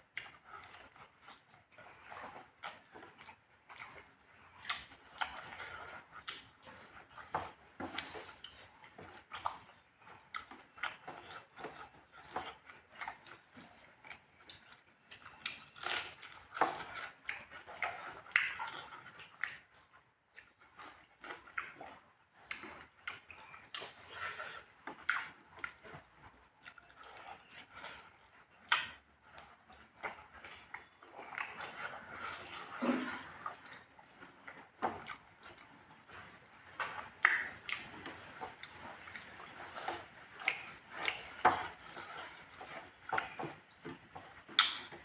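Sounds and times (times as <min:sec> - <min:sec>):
person chewing and smacking: 0:00.0 - 0:45.0.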